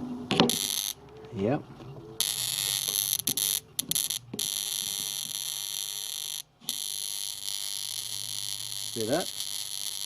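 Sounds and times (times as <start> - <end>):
harsh electrical buzz: 0.3 - 1.0, 2.2 - 10.0.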